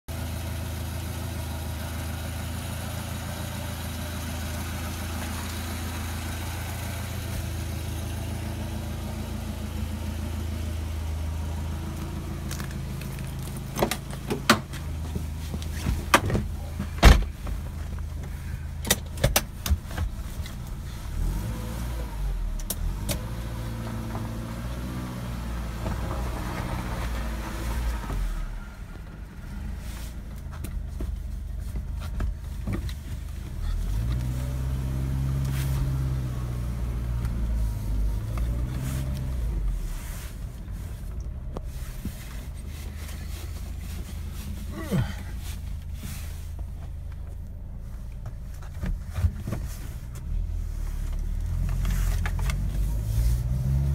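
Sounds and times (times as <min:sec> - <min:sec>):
car engine idling: 0:00.1 - 0:53.9.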